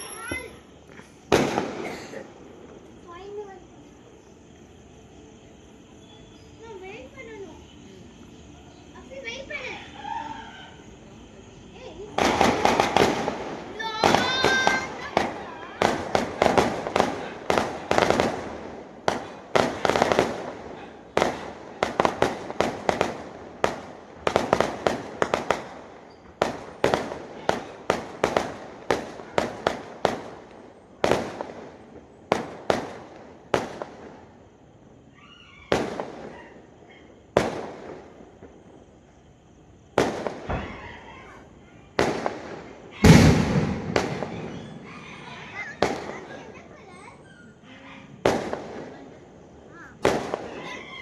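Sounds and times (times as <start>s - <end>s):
fireworks banging: 0.0s - 9.6s, 10.8s - 34.4s, 37.3s - 40.9s, 42.0s - 47.0s, 48.2s - 50.7s.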